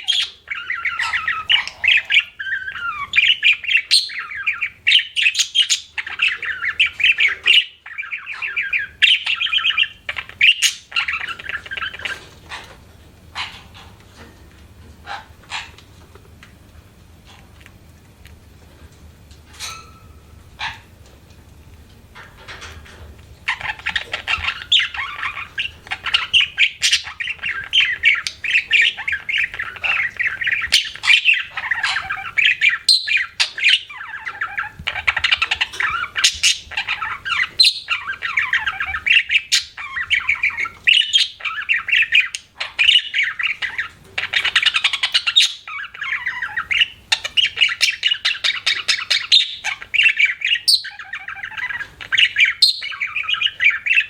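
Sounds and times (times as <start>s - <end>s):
budgerigar chattering: 0.0s - 13.8s, 15.0s - 15.8s, 23.5s - 54.0s.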